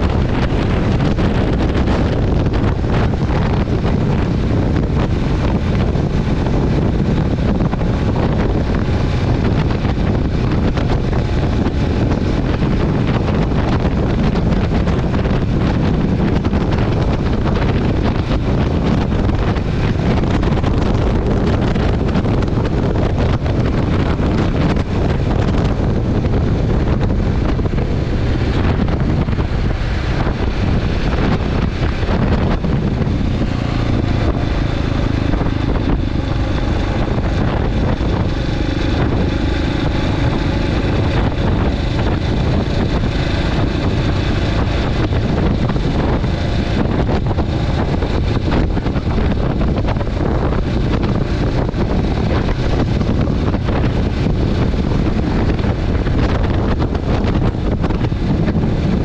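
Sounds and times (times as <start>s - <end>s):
motorcycle engine running: 0.0s - 59.0s
wind rushing on microphone: 0.0s - 59.0s.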